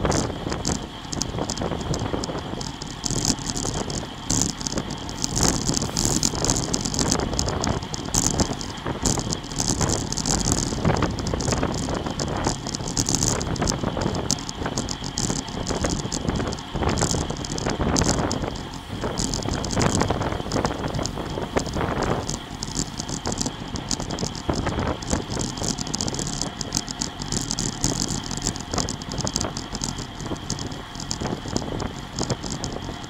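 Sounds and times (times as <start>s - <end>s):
camera and bike rattling: 0.0s - 33.0s
tyres running on asphalt: 0.0s - 33.0s
wind rushing over microphone: 0.0s - 33.0s.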